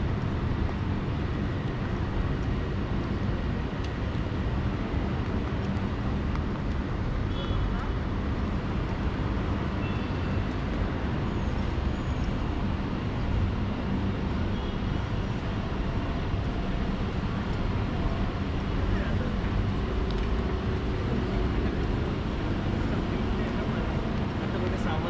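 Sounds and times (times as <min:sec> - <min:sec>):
distant road traffic hum: 0:00.0 - 0:25.0.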